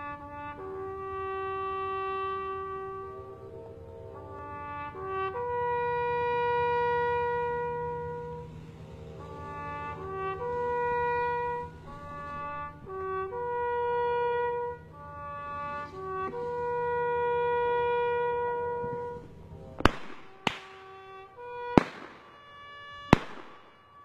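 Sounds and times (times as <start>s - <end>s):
slow wind instrument tune: 0.0s - 24.0s
steady low drone: 0.0s - 24.0s.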